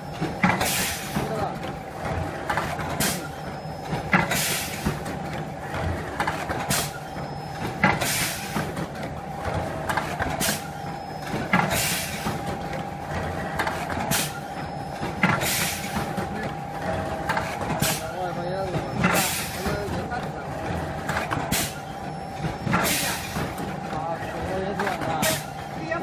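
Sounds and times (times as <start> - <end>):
pneumatic cylinders clacking: 0.0 - 25.8
steady machine hum: 0.0 - 26.0.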